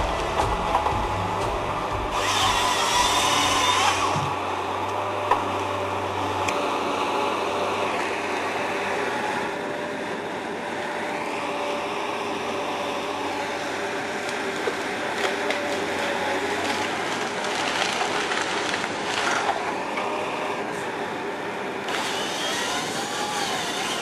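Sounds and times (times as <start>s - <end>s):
diesel engine and hydraulics: 0.0s - 24.0s.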